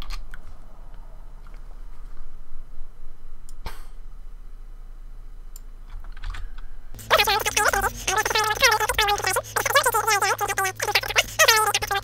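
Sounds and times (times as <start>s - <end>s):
low steady hum: 0.3s - 12.0s.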